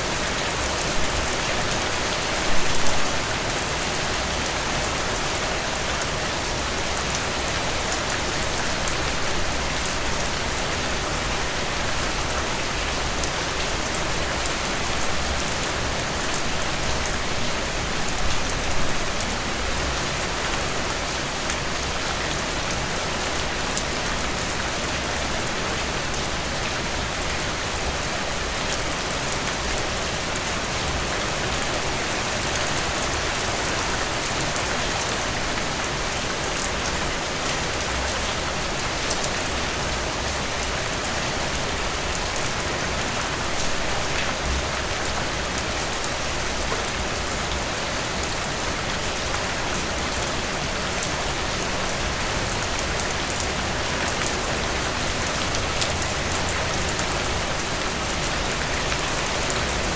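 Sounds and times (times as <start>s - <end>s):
rain drops pattering: 0.1s - 59.9s.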